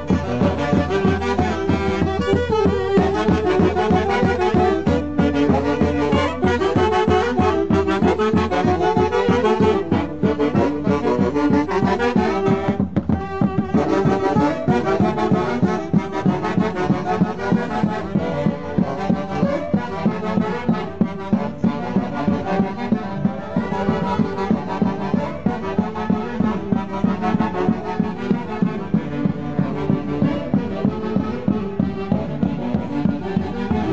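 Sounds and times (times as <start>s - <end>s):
saxophone band playing lively tune: 0.0s - 33.9s.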